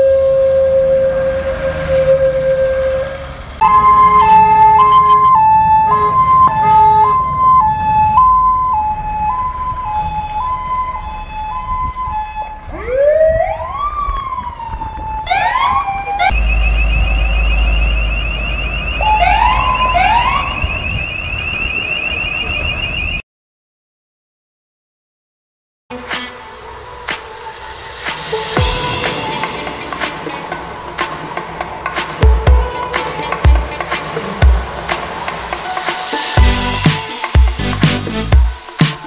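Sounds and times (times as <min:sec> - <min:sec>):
fire engine siren: 0:00.0 - 0:23.2, 0:25.9 - 0:39.0
truck engine rumble: 0:00.0 - 0:23.2, 0:26.0 - 0:39.0.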